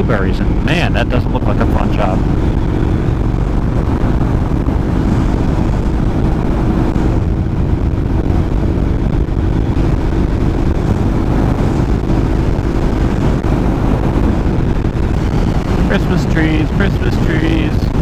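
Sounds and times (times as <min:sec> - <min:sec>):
motorcycle engine cruising: 0:00.0 - 0:18.0
wind noise on microphone: 0:00.0 - 0:18.0.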